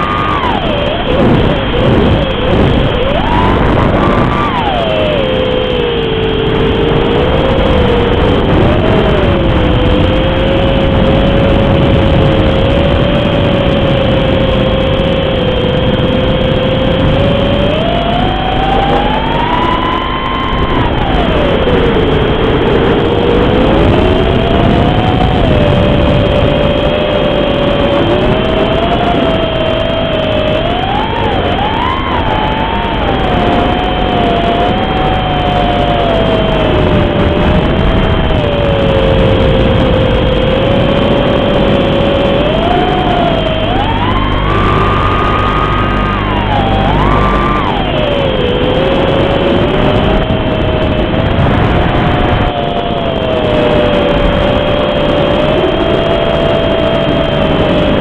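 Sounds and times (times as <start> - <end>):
drone motors whining: 0.0 - 58.0
heavy rushing noise: 0.0 - 58.0.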